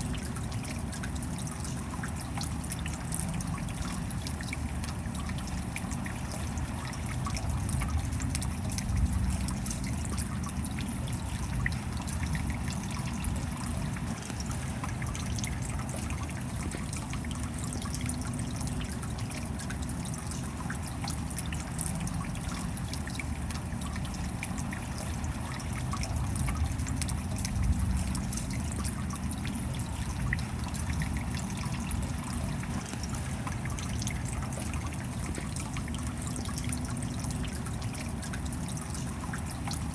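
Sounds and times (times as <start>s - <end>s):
steady rain: 0.0s - 39.9s
water trickling: 0.0s - 39.9s.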